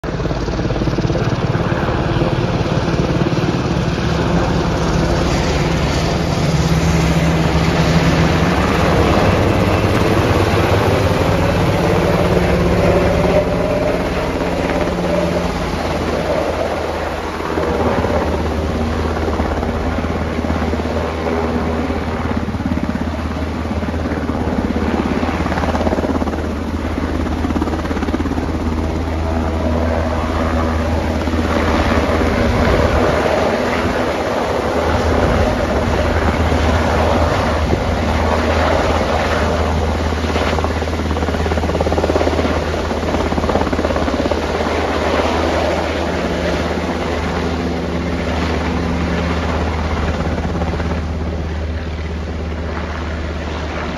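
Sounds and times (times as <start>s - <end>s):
helicopter rotor and turbines: 0.0s - 53.9s.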